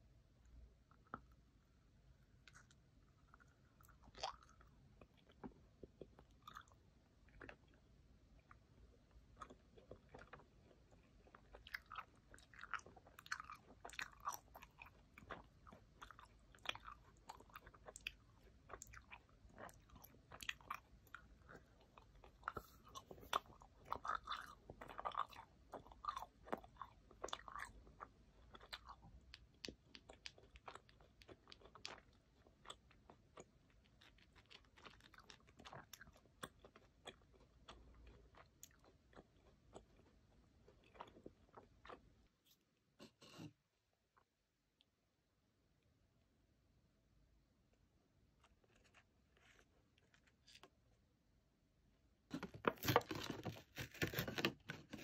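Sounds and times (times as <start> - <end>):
close-up gum chewing: 0.4 - 43.5, 47.7 - 50.8, 52.3 - 55.0.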